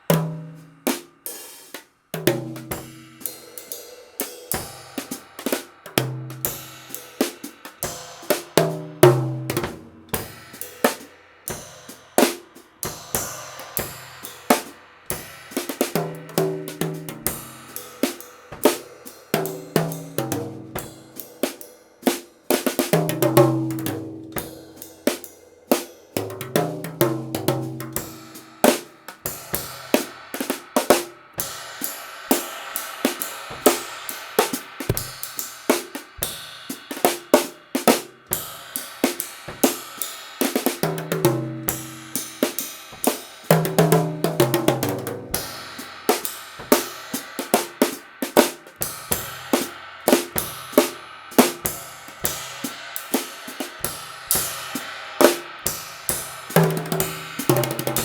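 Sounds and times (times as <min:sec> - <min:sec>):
cymbal wash: 0:00.0 - 0:58.0
drum kit groove: 0:00.0 - 0:58.0.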